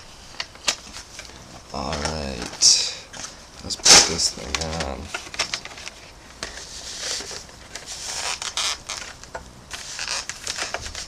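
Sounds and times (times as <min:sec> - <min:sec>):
helmet scraping and rustling: 0:00.0 - 0:11.0.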